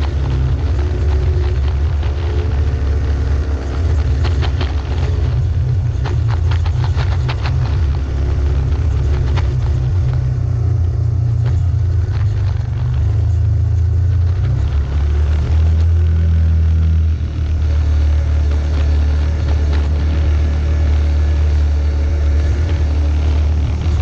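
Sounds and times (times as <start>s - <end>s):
knocks and rattles on rough ground: 0.0s - 24.0s
off-road vehicle engine droning: 0.0s - 24.0s.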